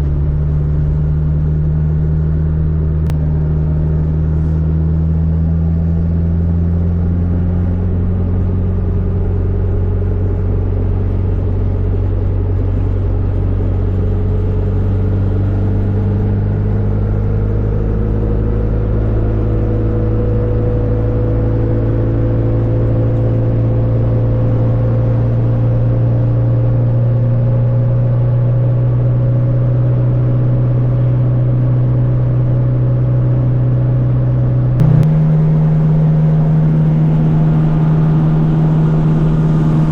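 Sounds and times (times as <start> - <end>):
car engine drone at speed: 0.0 - 39.9.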